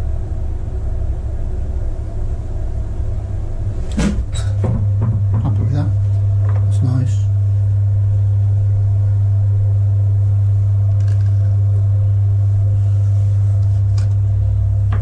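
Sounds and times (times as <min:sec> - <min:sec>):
potter's wheel motor humming: 0:00.0 - 0:15.0.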